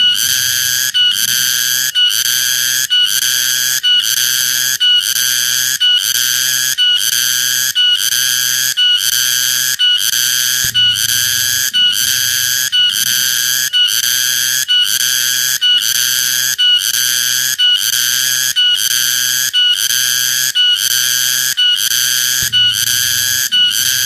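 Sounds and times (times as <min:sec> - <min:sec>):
cicada shrill buzzing: 0:00.0 - 0:24.0.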